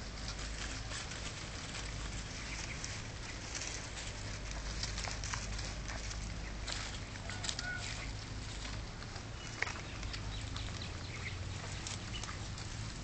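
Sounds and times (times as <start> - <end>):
short ticks and rustles: 0.0 - 13.0
steady low hum: 0.0 - 13.0.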